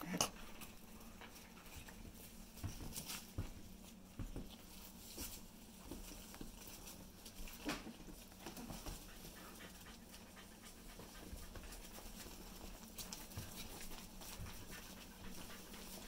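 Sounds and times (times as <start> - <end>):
puppies scuffling on towels: 0.0 - 16.0
paw ticks and light knocks: 0.1 - 16.0.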